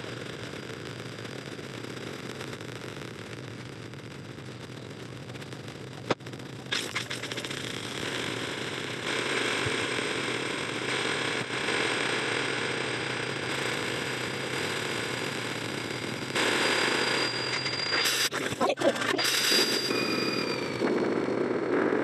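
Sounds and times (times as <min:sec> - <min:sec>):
harsh distorted noise: 0:00.0 - 0:22.0.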